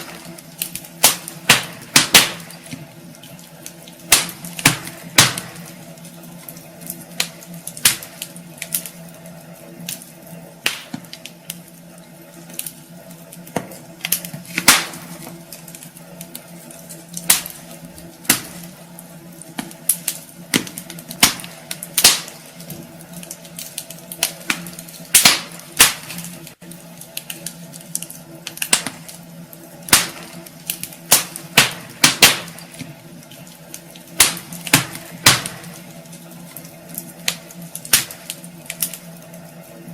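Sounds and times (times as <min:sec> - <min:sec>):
steady low hum: 0:00.0 - 0:39.9
wood fire crackling: 0:00.0 - 0:39.9.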